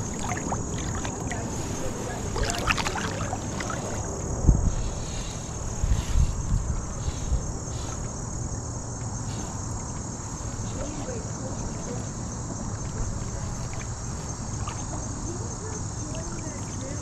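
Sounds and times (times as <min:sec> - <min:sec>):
constant hiss: 0:00.0 - 0:17.0
insects chirping: 0:00.0 - 0:17.0.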